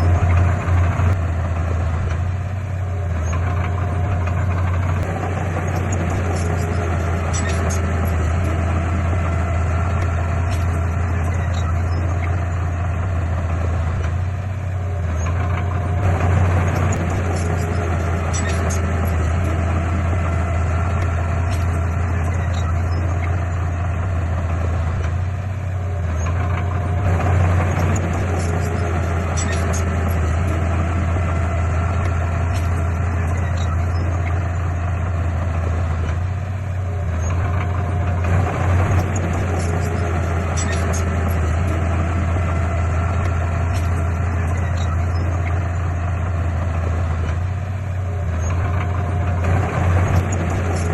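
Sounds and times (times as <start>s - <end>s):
heavy diesel engine humming: 0.0s - 50.9s.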